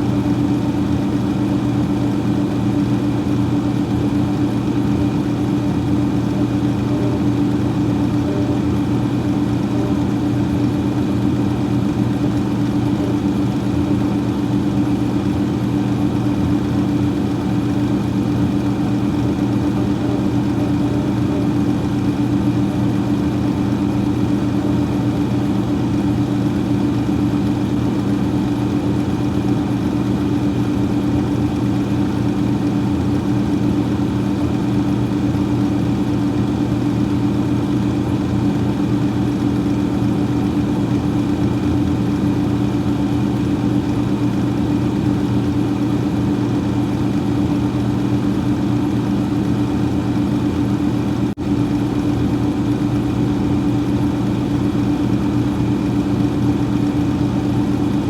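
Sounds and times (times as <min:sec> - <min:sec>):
freezer fan humming: 0:00.0 - 0:58.0.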